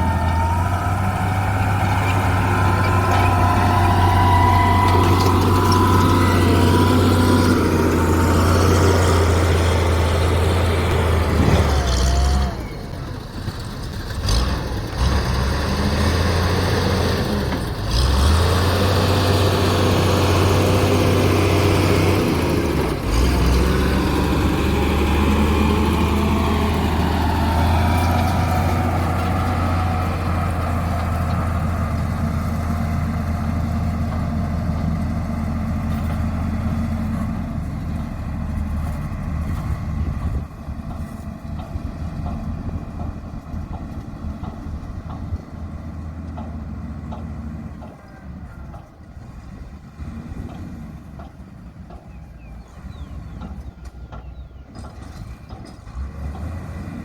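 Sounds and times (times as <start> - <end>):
diesel engine of heavy machinery: 0.0 - 57.0.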